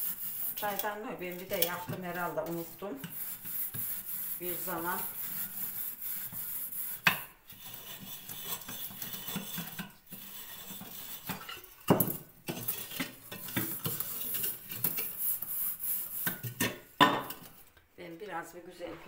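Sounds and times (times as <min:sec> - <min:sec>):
gritty scrubbing of metal pot: 0:00.0 - 0:17.7.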